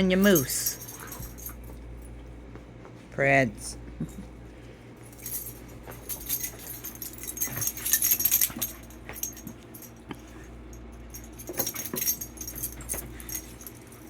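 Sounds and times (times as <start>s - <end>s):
dog collar tags jingling: 0.0s - 2.3s, 4.0s - 14.0s.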